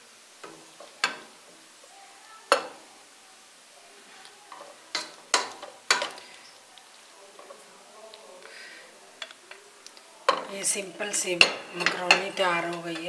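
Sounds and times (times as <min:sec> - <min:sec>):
spatula stirring pasta in pan: 0:00.0 - 0:07.9, 0:08.5 - 0:13.0
faint sizzle: 0:00.0 - 0:13.0.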